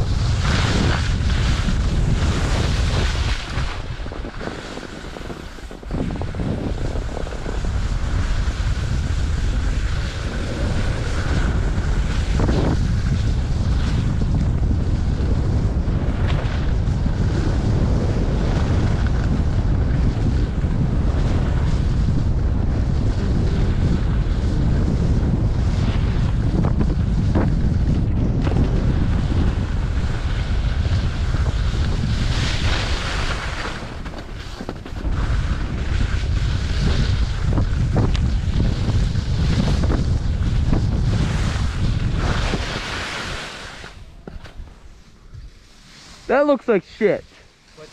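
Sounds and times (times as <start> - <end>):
skis scraping on snow: 0.0 - 47.9
wind buffeting microphone: 0.0 - 47.9.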